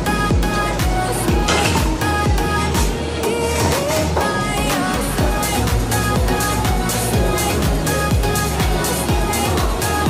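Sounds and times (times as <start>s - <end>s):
background pop music: 0.0s - 10.0s.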